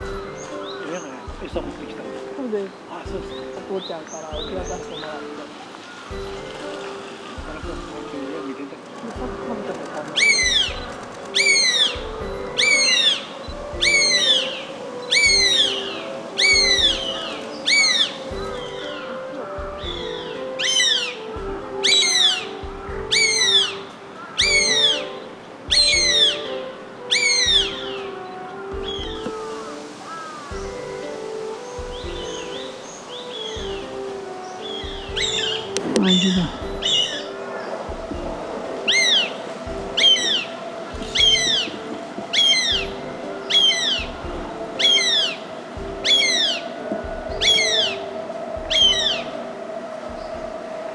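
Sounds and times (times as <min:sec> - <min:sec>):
hawks screaming: 0:00.0 - 0:50.9.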